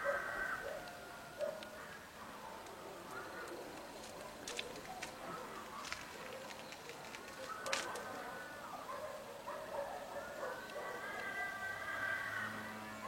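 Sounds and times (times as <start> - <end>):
small birds chirping: 1.5 - 13.0.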